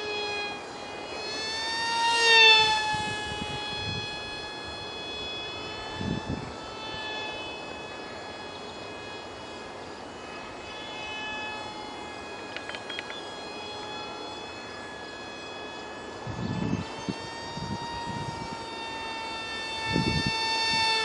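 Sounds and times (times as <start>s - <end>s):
model jet motor whining: 0.0s - 21.0s.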